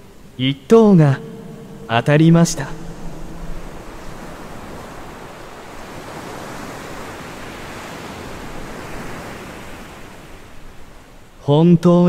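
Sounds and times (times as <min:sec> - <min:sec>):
ocean surf rushing: 0:00.0 - 0:11.5.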